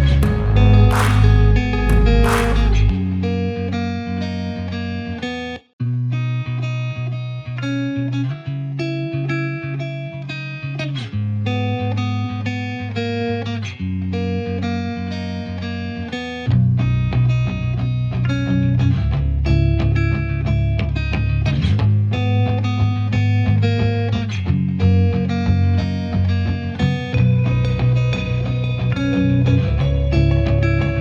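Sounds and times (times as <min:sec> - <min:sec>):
bass: 0:00.0 - 0:31.0
guitar picking notes: 0:00.0 - 0:31.0.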